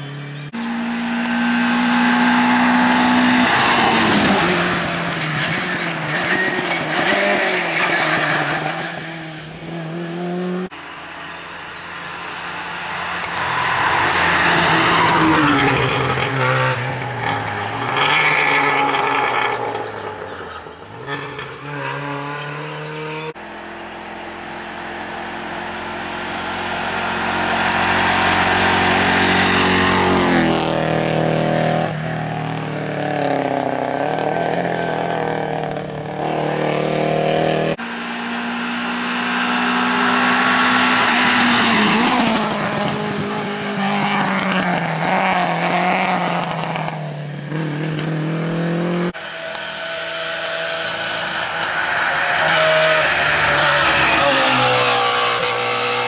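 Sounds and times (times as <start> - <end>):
rally cars passing at full throttle: 0.0 - 56.0.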